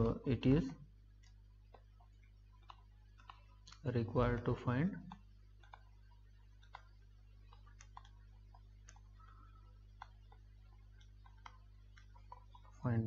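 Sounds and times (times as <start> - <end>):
low electrical hum: 0.0 - 13.0
stylus tapping on tablet: 1.1 - 12.8.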